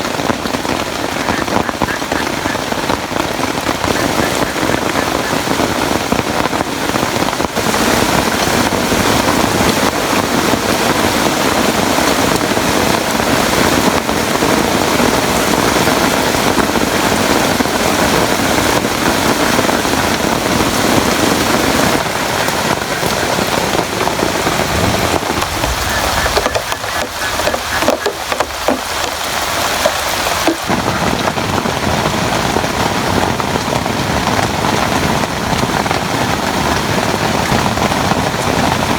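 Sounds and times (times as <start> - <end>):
loud rain falling: 0.0 - 38.9.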